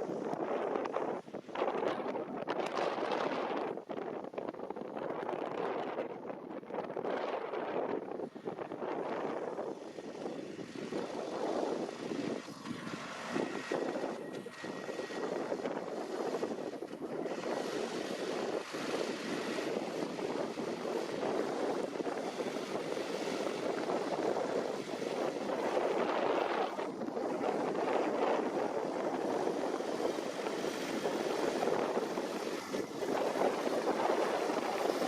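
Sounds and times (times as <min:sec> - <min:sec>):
tractor and harvesting machinery rumble: 0:00.0 - 0:06.0, 0:06.6 - 0:35.0.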